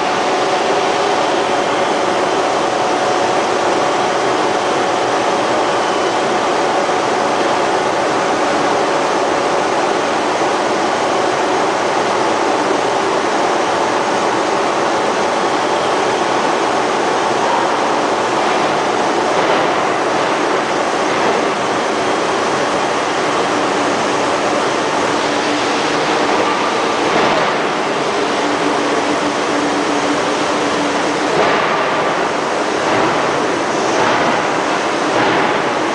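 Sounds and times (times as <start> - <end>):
factory roar: 0.0 - 35.9.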